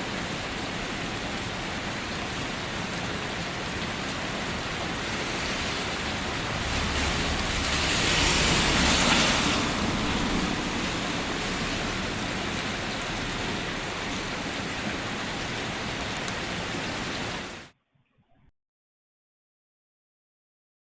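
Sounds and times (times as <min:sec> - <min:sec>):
heavy rain falling: 0:00.0 - 0:17.7.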